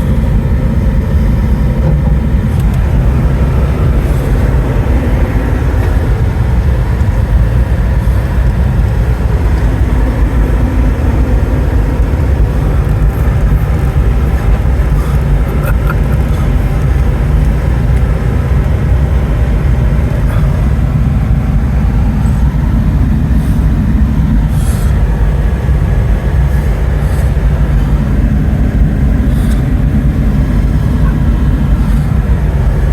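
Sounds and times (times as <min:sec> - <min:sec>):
vehicle engine and road noise: 0:00.0 - 0:32.9.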